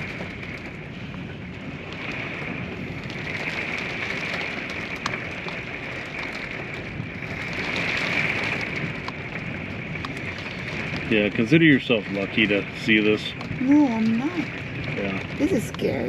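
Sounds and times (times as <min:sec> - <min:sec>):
rain on a camper roof: 0:00.0 - 0:16.0.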